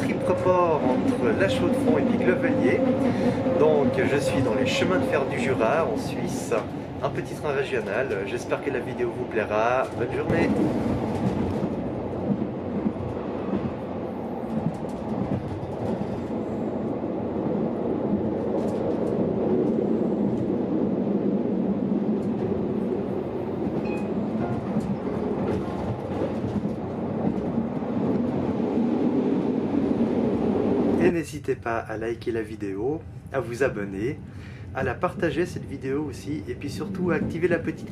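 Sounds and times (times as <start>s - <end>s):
train running noise inside carriage: 0.0s - 37.9s.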